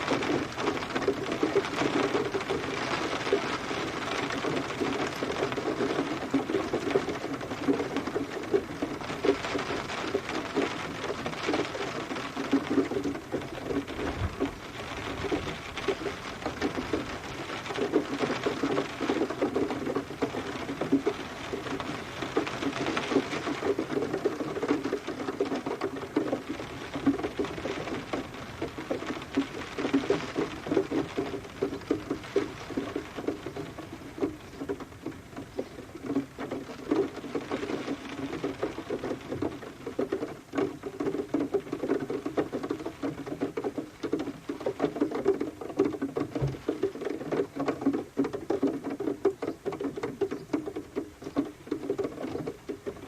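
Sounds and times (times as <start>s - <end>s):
rain patter: 0.0s - 53.0s.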